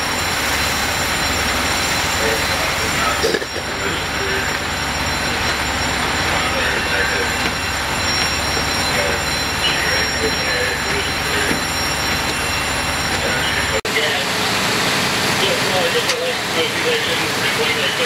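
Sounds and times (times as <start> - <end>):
high-pitched whine: 0.0 - 18.0
low engine drone: 0.0 - 18.0
faint voices: 2.1 - 18.0.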